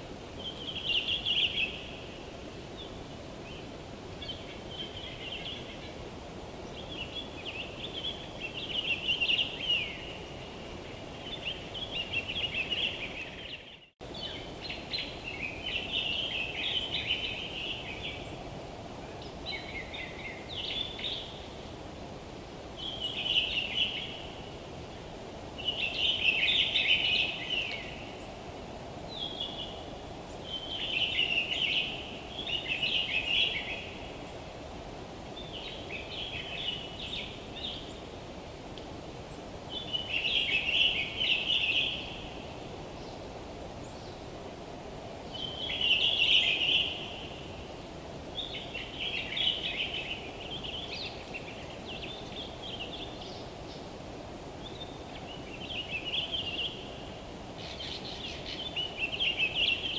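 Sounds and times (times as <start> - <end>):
low background hiss: 0.0 - 59.9
songbird singing: 0.0 - 59.9.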